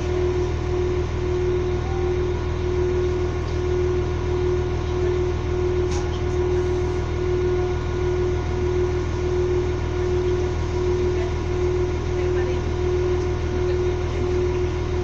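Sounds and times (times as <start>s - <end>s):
pulsing high tone: 0.0s - 15.0s
train equipment hum: 0.0s - 15.0s.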